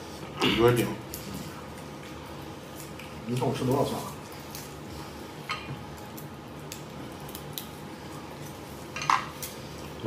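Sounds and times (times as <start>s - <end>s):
soft chewing: 0.2s - 10.0s.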